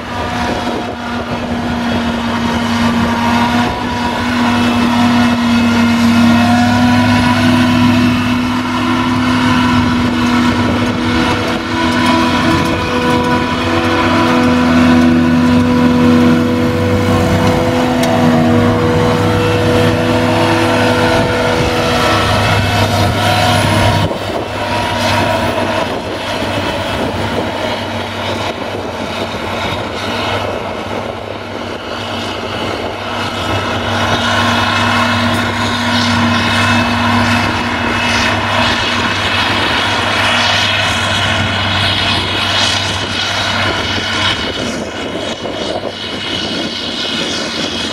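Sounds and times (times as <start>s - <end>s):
forage harvester machine drone: 0.0s - 47.9s.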